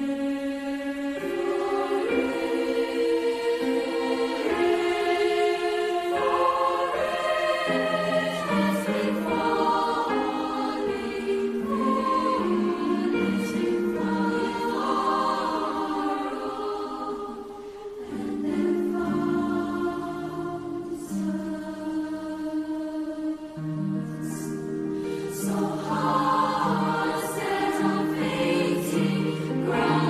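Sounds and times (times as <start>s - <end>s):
youth choir singing chords: 0.0s - 30.0s.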